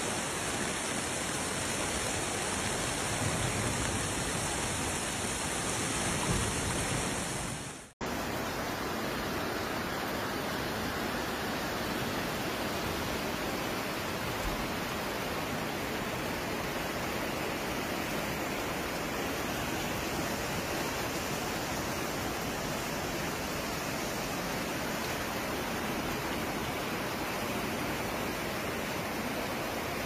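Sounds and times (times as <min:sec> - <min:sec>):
floodwater rushing down a street: 0:00.0 - 0:30.0.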